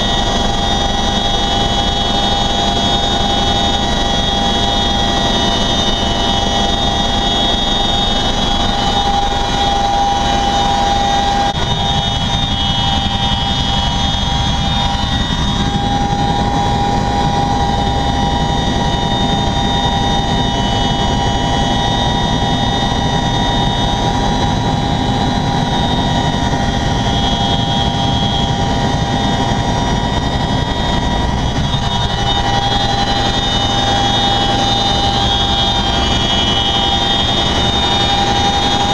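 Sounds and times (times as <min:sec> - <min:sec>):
helicopter rotors and engines din: 0:00.0 - 0:38.9
high-pitched whine: 0:00.0 - 0:38.9.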